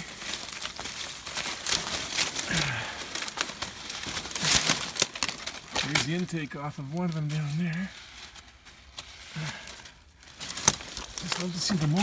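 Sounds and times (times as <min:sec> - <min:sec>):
dry branches crackling and snapping: 0:00.0 - 0:12.0.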